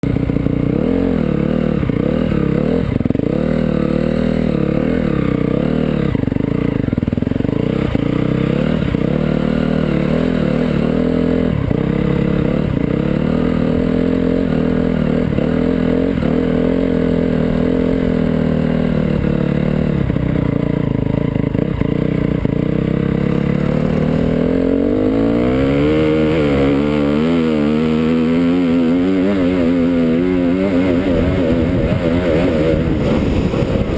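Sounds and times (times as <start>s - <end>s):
motocross bike engine revving: 0.0s - 33.9s.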